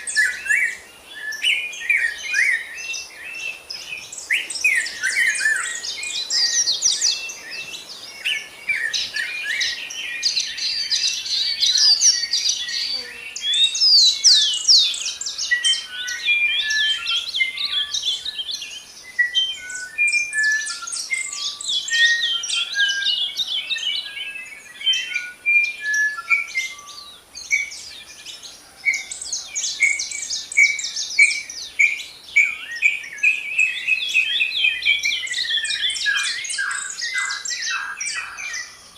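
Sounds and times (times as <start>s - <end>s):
descending whistled bird notes: 0.0s - 28.3s, 28.9s - 38.9s
songbirds chirping: 0.0s - 38.9s.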